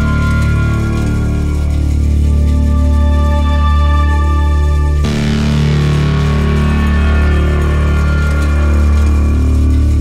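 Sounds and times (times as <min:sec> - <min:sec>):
background music with low notes: 0:00.0 - 0:10.0.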